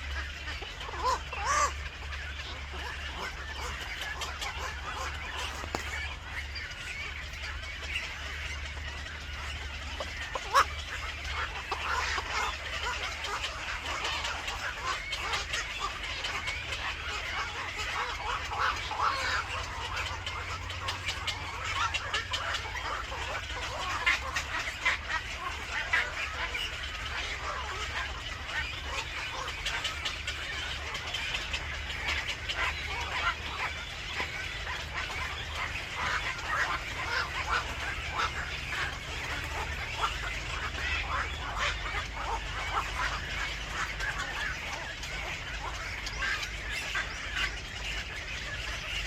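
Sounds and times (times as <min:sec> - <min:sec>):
birds chirping and clucking: 0:00.0 - 0:49.0
steady low hum: 0:00.0 - 0:49.0.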